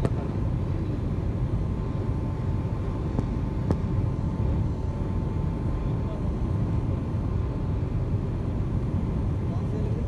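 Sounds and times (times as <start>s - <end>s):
faint steady whine: 0.0s - 10.0s.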